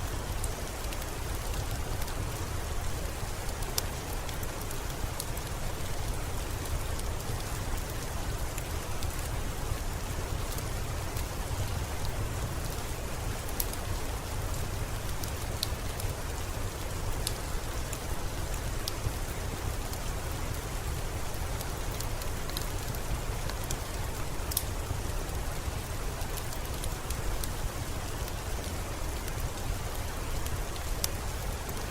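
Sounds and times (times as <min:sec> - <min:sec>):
steady rain: 0:00.0 - 0:31.9
wood fire crackling: 0:00.2 - 0:31.9.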